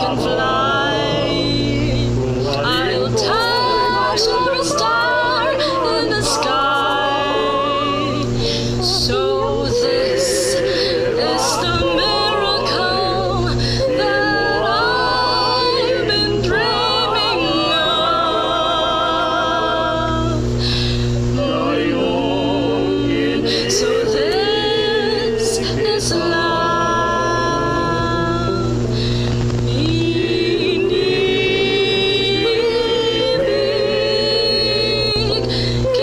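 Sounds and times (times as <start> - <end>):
man and woman singing: 0.0 - 36.0
steady low hum: 0.0 - 36.0.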